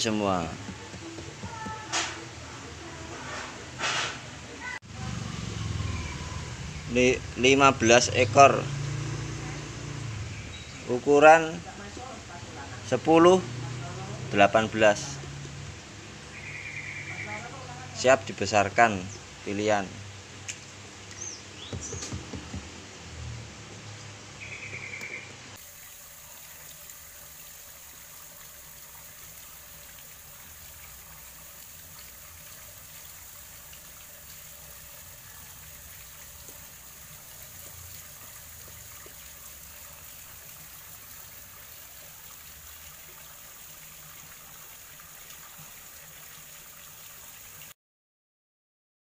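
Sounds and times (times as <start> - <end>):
water trickling: 0.0 - 3.8, 4.6 - 47.8.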